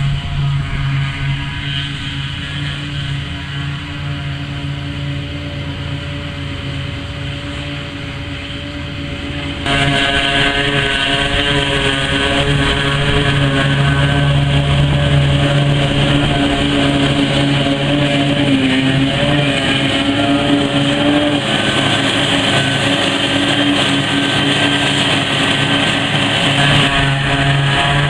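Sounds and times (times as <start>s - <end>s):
forage harvester and tractor engine drone: 0.0s - 28.0s.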